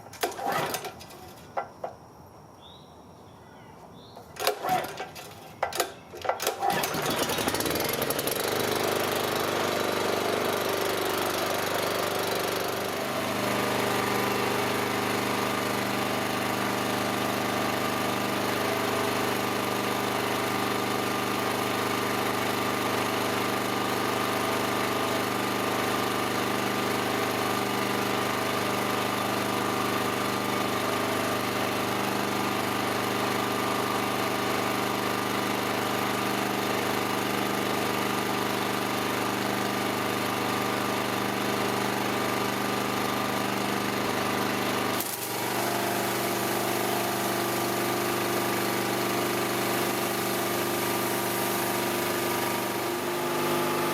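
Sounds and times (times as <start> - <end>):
small engine running steadily: 4.4 - 53.9.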